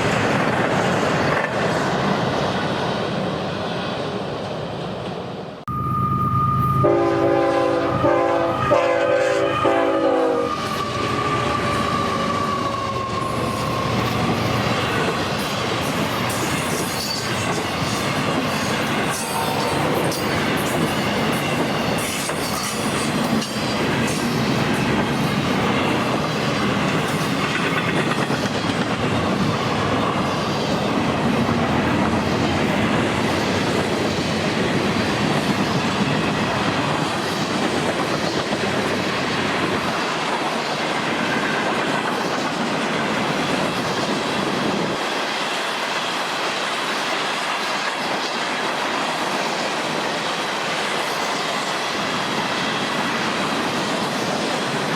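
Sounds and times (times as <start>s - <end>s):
train cars rumbling past: 0.0s - 54.9s.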